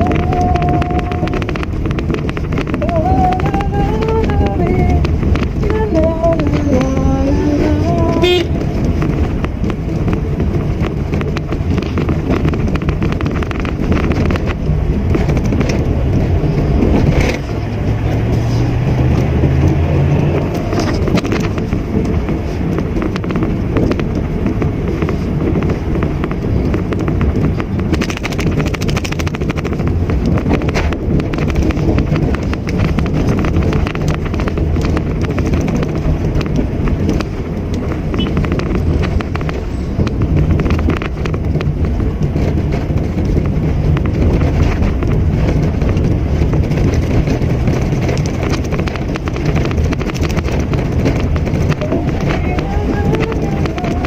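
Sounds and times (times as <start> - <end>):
car engine drone: 0.0 - 54.0
tyre and road noise: 0.0 - 54.0.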